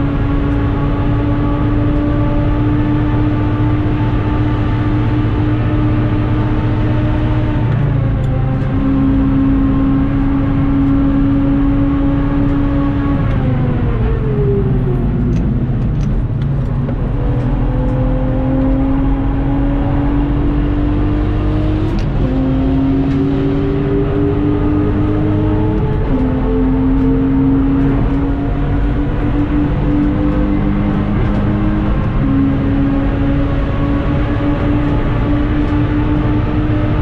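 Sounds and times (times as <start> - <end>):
car engine revving: 0.0 - 37.0
road and tyre noise: 0.0 - 37.0.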